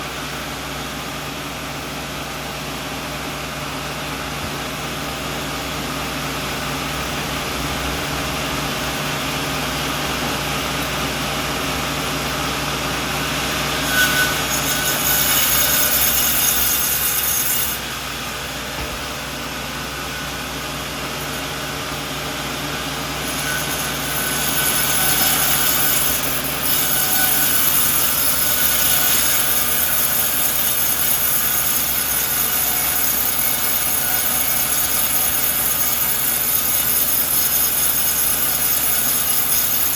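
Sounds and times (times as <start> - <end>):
sawmill engine drone: 0.0 - 39.9
saw blade cutting log: 4.4 - 39.9.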